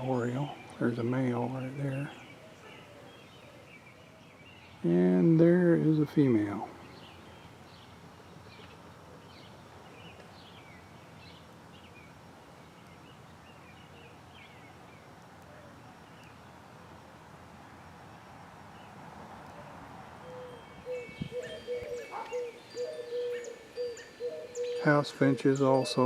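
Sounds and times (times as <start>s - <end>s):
outdoor background hiss: 0.0s - 26.0s
songbird chirping: 0.0s - 26.0s.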